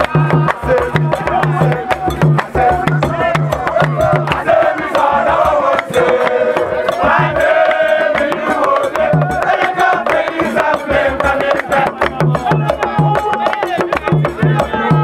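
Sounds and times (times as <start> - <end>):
barrel drums beaten: 0.0 - 15.0
sharp clicking percussion: 0.0 - 15.0
voices singing: 0.0 - 15.0.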